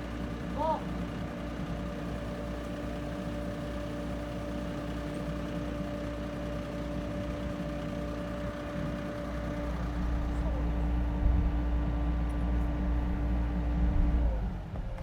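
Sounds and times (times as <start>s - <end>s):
construction machine engine idling: 0.0s - 15.0s.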